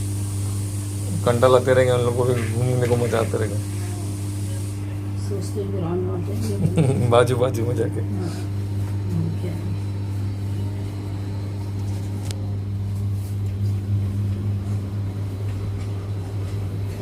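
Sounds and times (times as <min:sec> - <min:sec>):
washing machine hum: 0:00.0 - 0:17.0.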